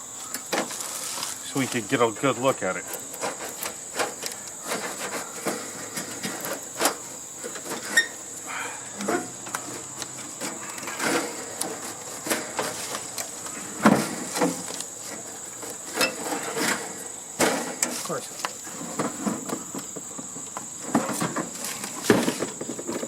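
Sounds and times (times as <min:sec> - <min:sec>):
tools and sheet metal clanking: 0:00.2 - 0:23.0.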